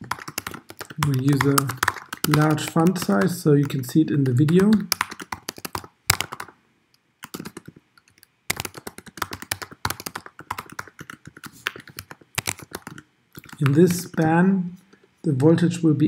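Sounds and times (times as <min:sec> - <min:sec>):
typing on computer keyboard: 0:00.0 - 0:06.6, 0:07.2 - 0:14.2.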